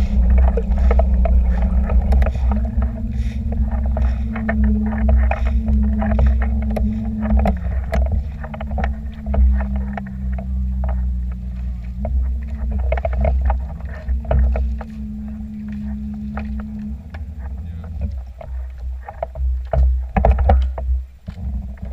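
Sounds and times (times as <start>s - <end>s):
motorboat engine running: 0.0s - 21.9s
water splashes: 0.0s - 21.9s.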